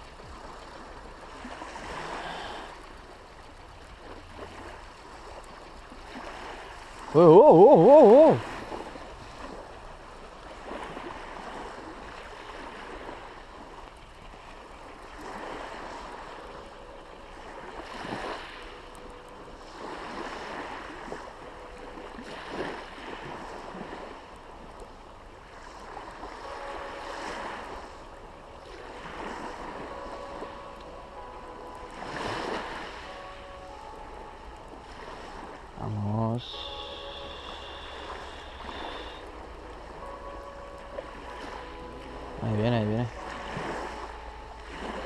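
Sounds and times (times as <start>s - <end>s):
small waves breaking on beach: 0.0s - 45.0s.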